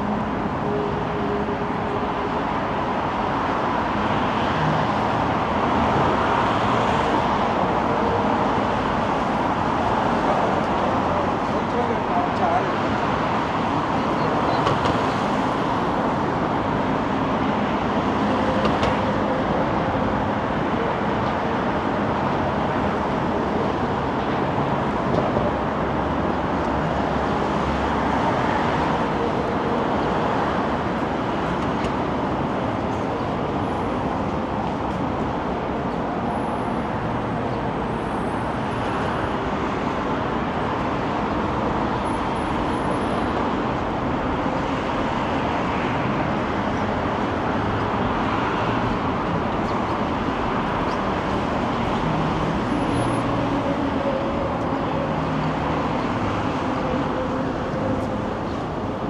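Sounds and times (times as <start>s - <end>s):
road traffic rushing past: 0.0s - 59.0s.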